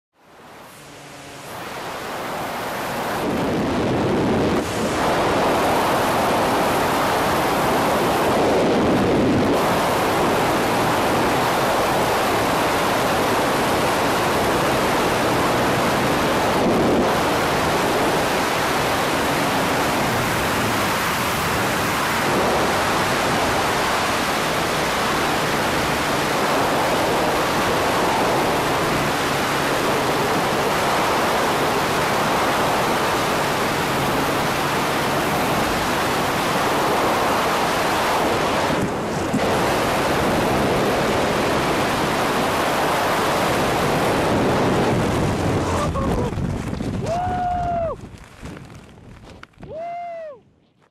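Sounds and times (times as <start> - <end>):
wind rushing over microphone: 0.3 - 50.8.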